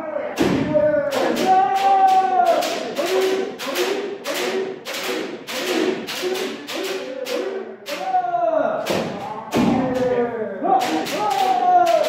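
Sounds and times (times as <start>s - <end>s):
people shouting: 0.0s - 12.0s
bamboo swords hitting protective gear: 0.4s - 8.2s, 8.8s - 12.0s.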